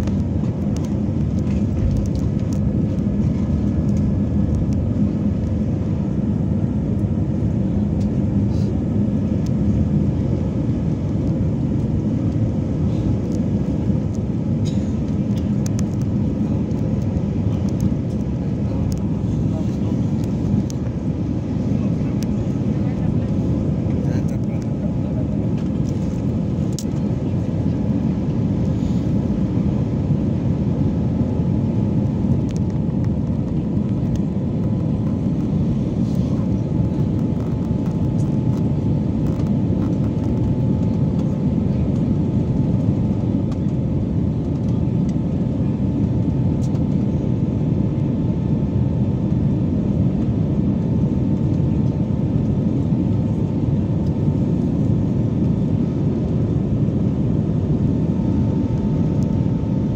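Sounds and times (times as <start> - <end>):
airliner cabin engine noise: 0.0 - 59.9.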